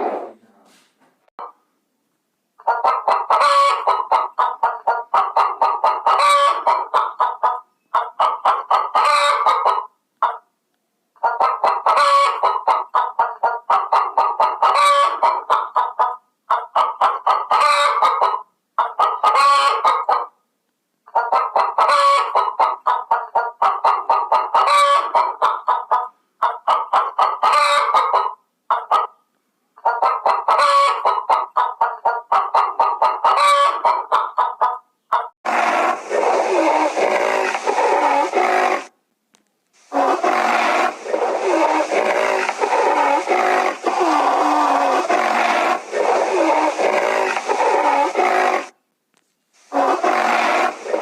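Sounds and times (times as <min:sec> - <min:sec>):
chickens clucking: 0:02.6 - 0:10.4, 0:11.2 - 0:20.4, 0:21.1 - 0:29.2, 0:29.8 - 0:38.9, 0:39.8 - 0:48.8, 0:49.7 - 0:51.0.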